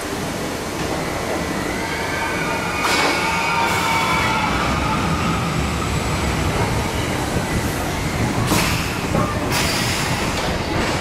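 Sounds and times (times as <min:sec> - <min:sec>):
roller coaster wheels rumbling: 0:00.0 - 0:11.0.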